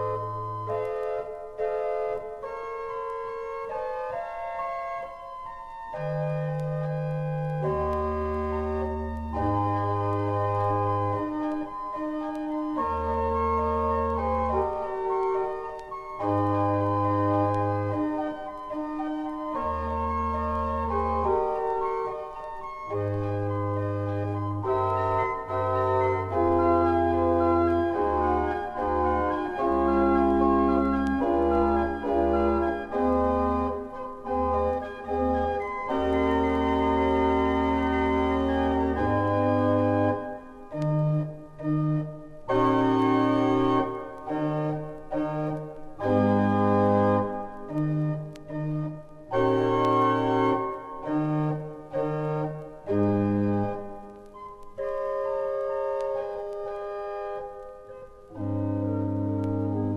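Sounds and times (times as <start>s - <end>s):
deep organ pedal bass: 0.0s - 53.9s, 58.3s - 59.9s
pipe organ chords: 0.0s - 59.9s.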